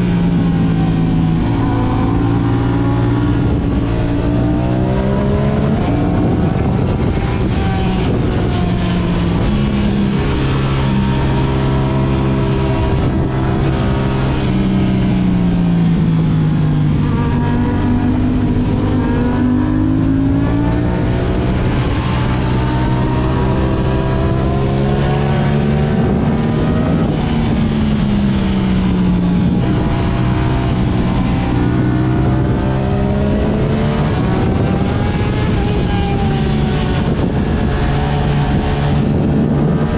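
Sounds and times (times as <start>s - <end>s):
sport bike engine: 0.0s - 39.9s
wind noise: 0.0s - 39.9s.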